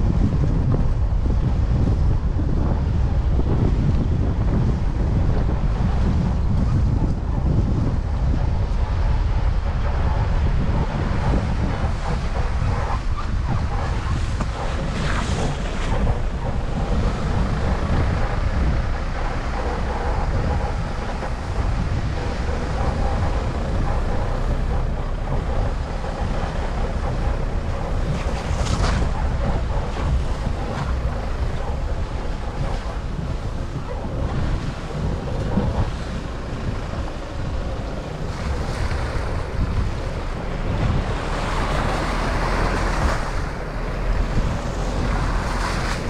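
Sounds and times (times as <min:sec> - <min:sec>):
ocean surf: 0:00.0 - 0:46.0
wind buffeting microphone: 0:00.0 - 0:46.0.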